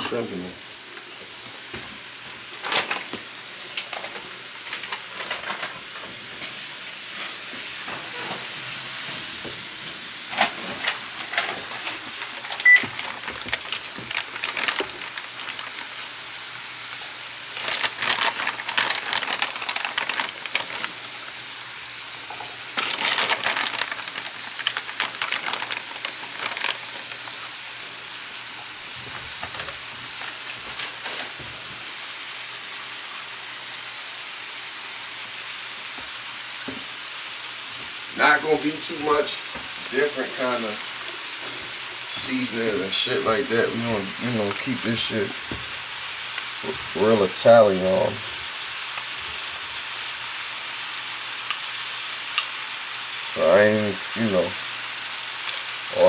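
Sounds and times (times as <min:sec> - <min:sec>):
food sizzling in oil in a skillet: 0:00.1 - 0:56.0.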